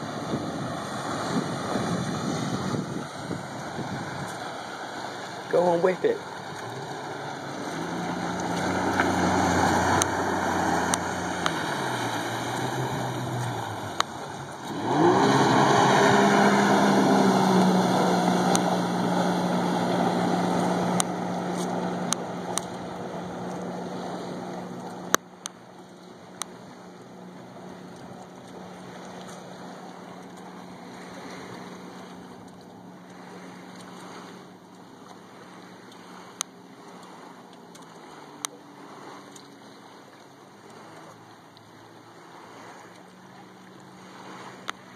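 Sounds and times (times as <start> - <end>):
jet ski engine: 0.0 - 44.9.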